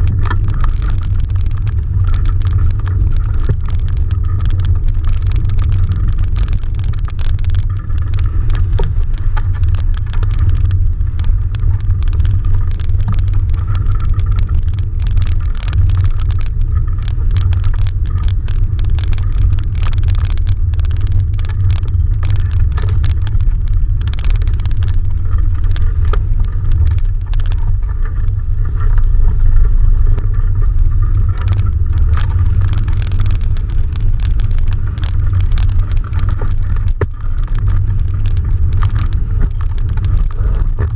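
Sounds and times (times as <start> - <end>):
small clicks and rattles: 0.0 - 40.9
wind buffeting microphone: 0.0 - 40.9.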